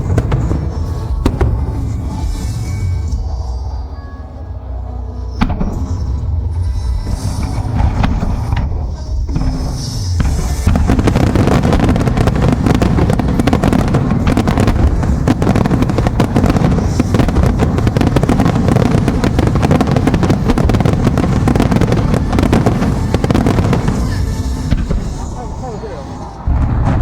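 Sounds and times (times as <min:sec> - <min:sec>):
fireworks bangs and crackles: 0:00.0 - 0:03.7, 0:05.3 - 0:27.0.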